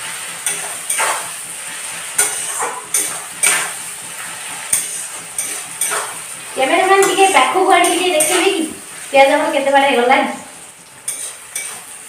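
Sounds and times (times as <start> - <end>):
onions sizzling in hot oil: 0.0 - 12.0
metal spatula scraping pan: 0.2 - 9.1, 11.0 - 12.0.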